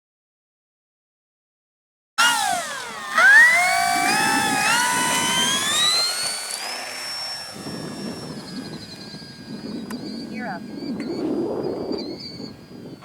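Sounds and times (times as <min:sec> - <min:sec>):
model plane motor whine: 0:02.2 - 0:13.0.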